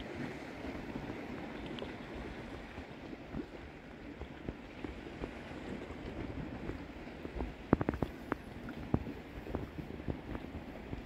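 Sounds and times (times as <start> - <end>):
water lapping at pier: 0.0 - 11.0
wind rumble on microphone: 0.0 - 11.0.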